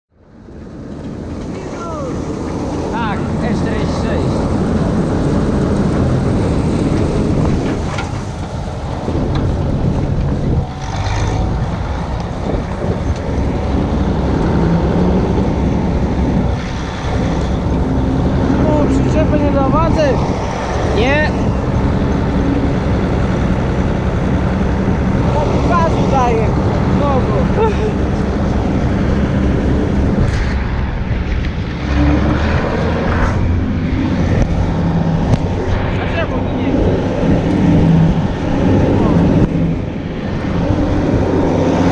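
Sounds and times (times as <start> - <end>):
diesel engine running: 0.2 - 41.9
wind buffeting microphone: 0.4 - 41.9.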